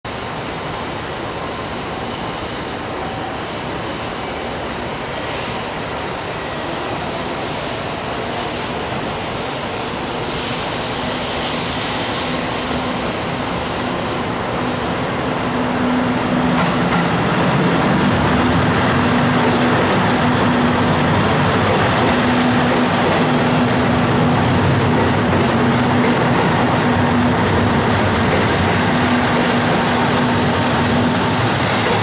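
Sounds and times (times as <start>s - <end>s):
diesel railcars running: 0.1s - 32.0s.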